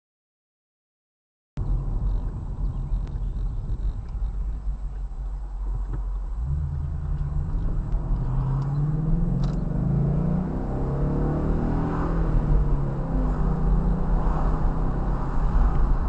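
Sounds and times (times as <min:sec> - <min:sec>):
car engine accelerating: 0:01.6 - 0:16.0.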